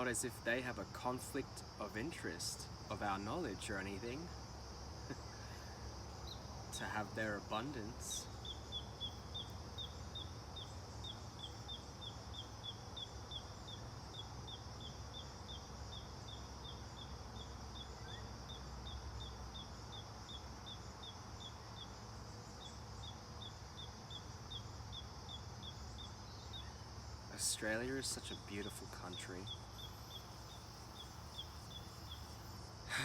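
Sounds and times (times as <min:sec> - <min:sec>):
insect drone: 0:00.0 - 0:33.0
bird chirping: 0:05.1 - 0:33.0.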